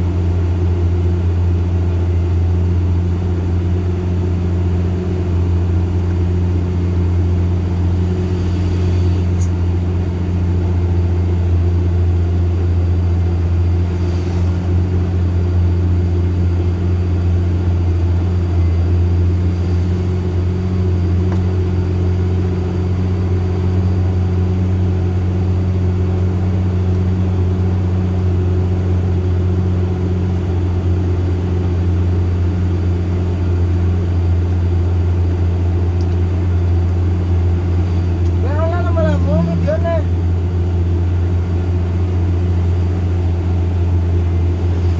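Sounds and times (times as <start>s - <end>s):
truck diesel engine droning: 0.0s - 44.9s.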